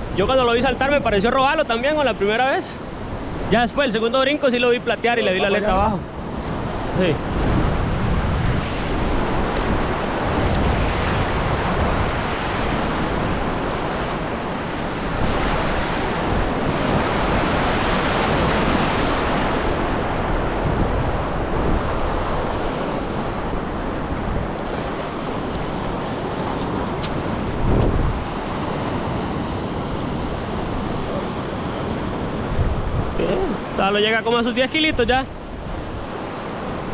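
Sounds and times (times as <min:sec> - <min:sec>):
wind on microphone: 0:00.0 - 0:04.0, 0:04.8 - 0:36.9
surf washing and foaming: 0:00.0 - 0:36.9.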